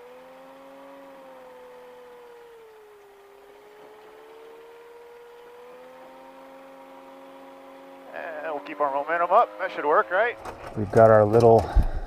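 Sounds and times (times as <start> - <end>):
light aircraft engine humming: 0.0 - 12.0.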